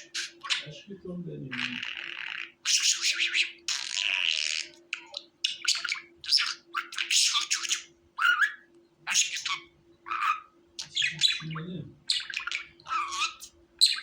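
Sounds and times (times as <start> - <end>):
budgerigars chattering: 0.0 - 0.9, 1.5 - 14.0
faint steady hum: 0.0 - 14.0.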